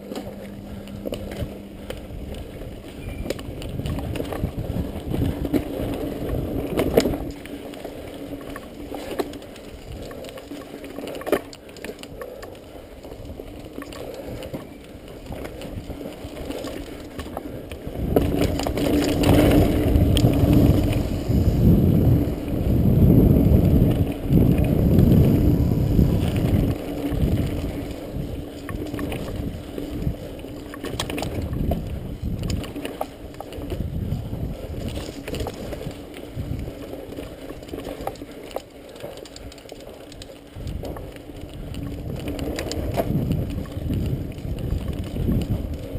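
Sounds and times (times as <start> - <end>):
wind on microphone: 0.0 - 10.4, 13.0 - 38.7, 39.3 - 45.9
bike clicks and rattles: 0.0 - 45.9.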